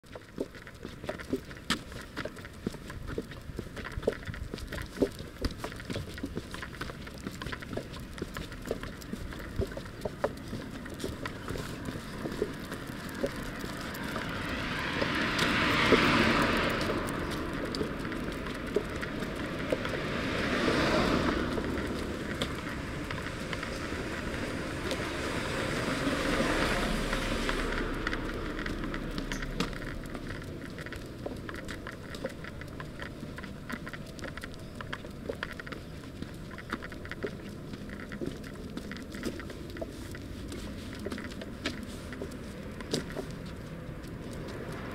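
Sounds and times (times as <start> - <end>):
small dog trotting on asphalt: 0.0 - 44.9
vehicles passing on road: 0.0 - 44.9.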